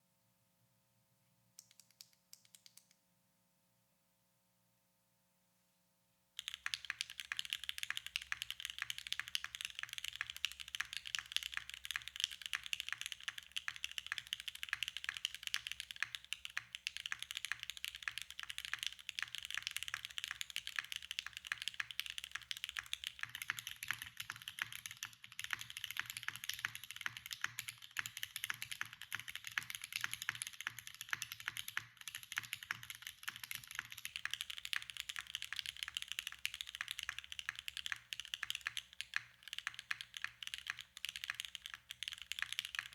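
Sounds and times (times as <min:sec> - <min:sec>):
mechanical keyboard typing: 0:01.6 - 0:02.9, 0:06.4 - 0:42.9.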